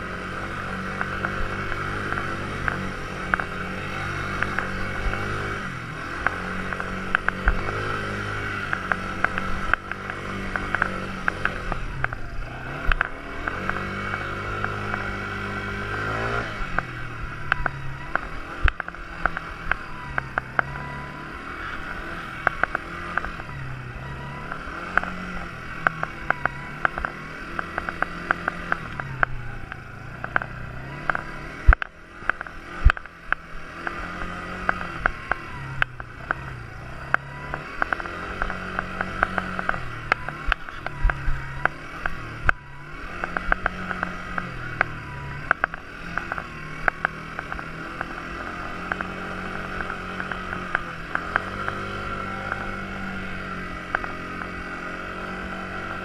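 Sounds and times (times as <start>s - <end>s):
quad bike engine revving: 0.0s - 56.0s
sharp clicks and rattles: 0.1s - 56.0s.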